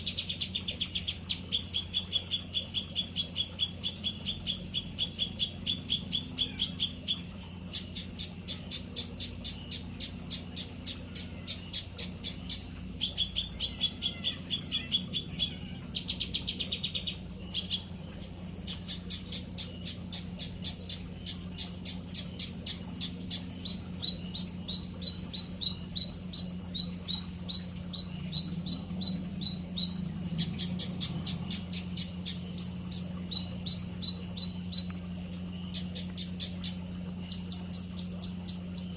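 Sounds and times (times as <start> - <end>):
songbird chirping: 0.0 - 38.9
steady low hum: 0.0 - 38.9.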